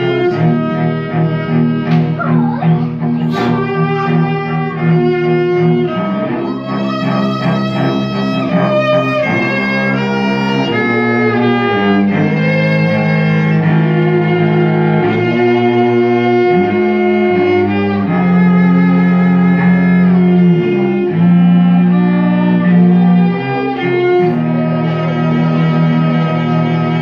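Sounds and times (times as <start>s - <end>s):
cello low notes: 0.0s - 27.0s
viola melody: 0.0s - 27.0s.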